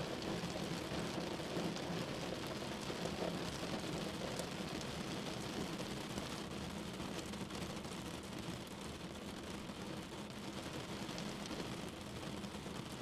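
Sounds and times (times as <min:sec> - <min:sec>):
rain on a window pane: 0:00.0 - 0:13.0.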